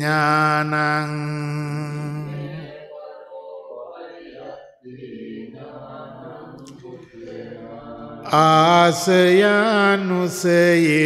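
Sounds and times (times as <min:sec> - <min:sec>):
soft steady chanting: 0:01.8 - 0:11.0.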